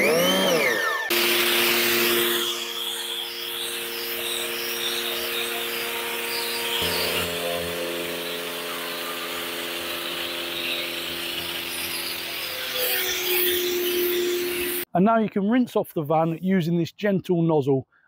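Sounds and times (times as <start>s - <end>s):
pressure washer motor hum: 0.0s - 14.9s.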